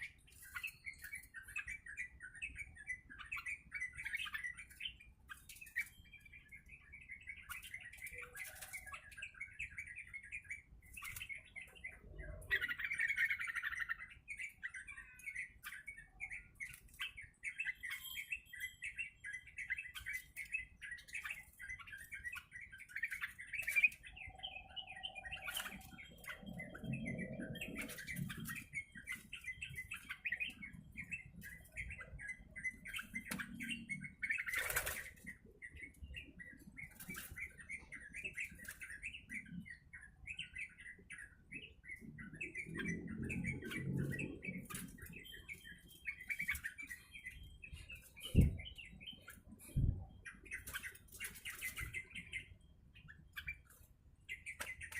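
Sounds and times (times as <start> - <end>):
bulbul chirping and chattering: 0.0 - 54.9.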